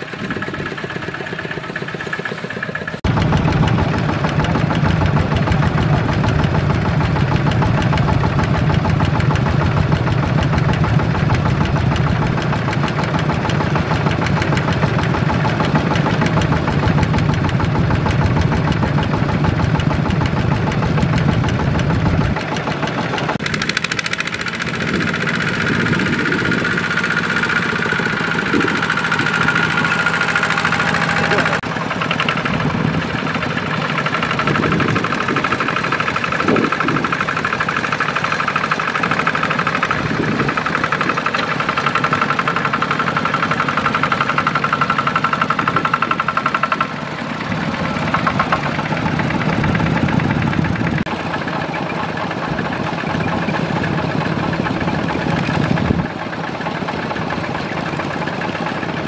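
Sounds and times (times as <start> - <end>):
diesel tractor engines clattering: 0.0 - 59.0
steady higher engine tone: 0.0 - 59.0.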